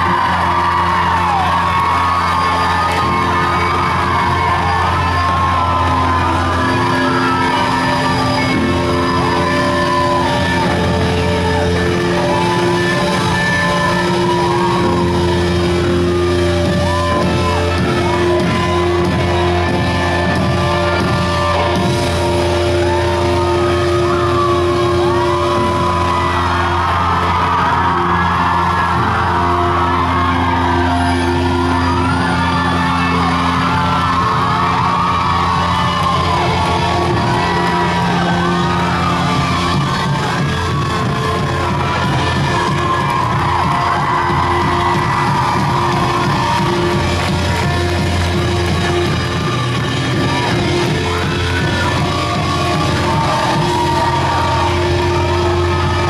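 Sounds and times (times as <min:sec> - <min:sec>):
crowd shouting and singing along: 0:00.0 - 0:56.0
live rock band playing: 0:00.0 - 0:56.0.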